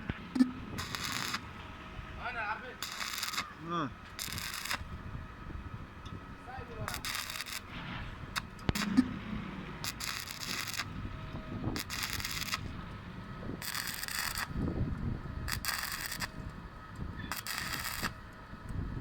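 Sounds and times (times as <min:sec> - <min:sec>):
welding arc crackling: 0:00.0 - 0:18.9.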